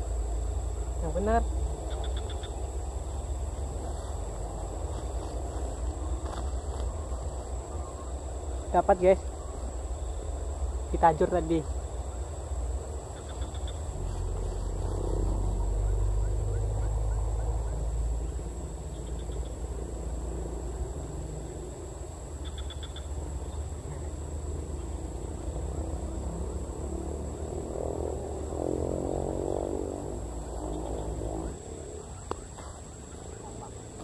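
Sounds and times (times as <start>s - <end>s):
frogs calling: 0.0s - 34.0s
high insect drone: 0.0s - 34.0s.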